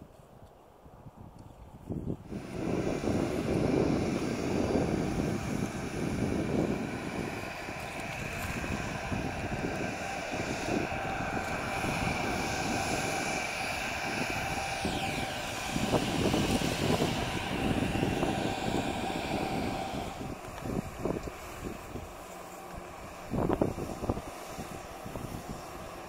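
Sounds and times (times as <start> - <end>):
jet engine low rumble: 0.8 - 26.0
jet engines whining: 2.2 - 26.0.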